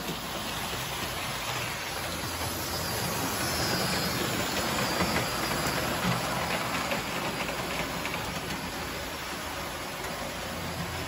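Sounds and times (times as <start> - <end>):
toy train motors rumbling: 0.0 - 11.0.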